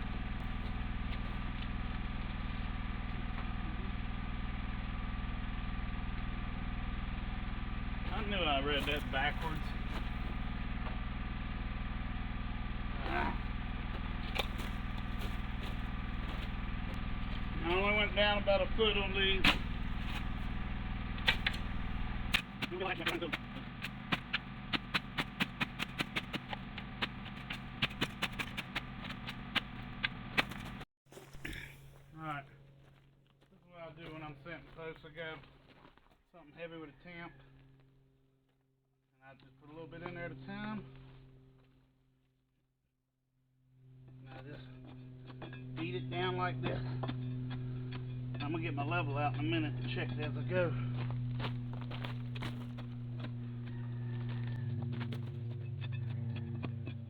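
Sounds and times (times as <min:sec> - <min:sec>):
generator engine running: 0:00.0 - 0:33.1, 0:43.8 - 0:57.0.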